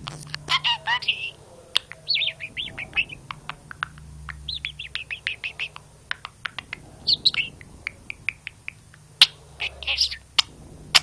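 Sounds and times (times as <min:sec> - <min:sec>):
budgerigar chattering: 0:00.2 - 0:11.0.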